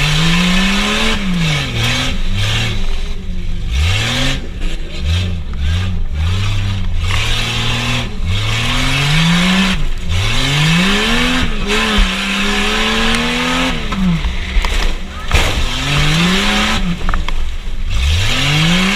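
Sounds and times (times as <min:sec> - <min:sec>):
truck engine revving: 0:00.0 - 0:18.9.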